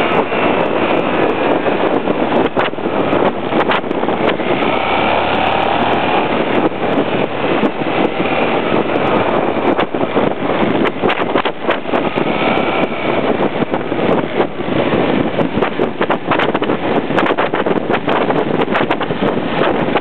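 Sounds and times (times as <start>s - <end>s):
motorcycle ride noise: 0.0s - 20.0s
wind buffeting microphone: 0.0s - 20.0s.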